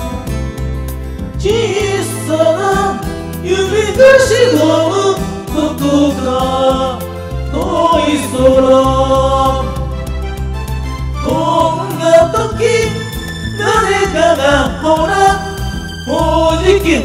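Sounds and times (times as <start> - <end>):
karaoke backing track: 0.0 - 17.0
people singing in unison: 1.4 - 9.9, 11.2 - 17.0.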